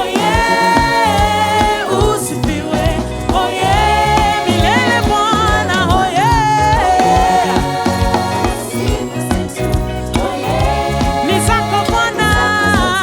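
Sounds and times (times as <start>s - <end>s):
gospel worship band: 0.0s - 13.0s.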